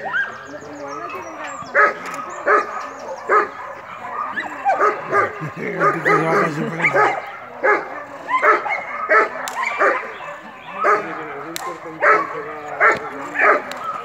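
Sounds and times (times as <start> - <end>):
dog barking: 1.7 - 14.0.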